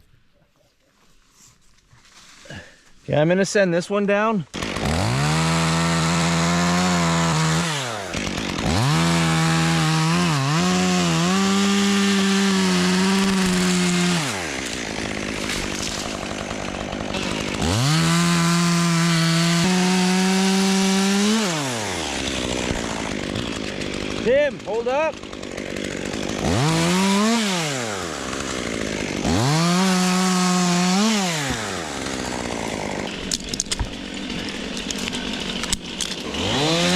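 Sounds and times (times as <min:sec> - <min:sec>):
chainsaw cutting wood: 0:04.5 - 0:36.9.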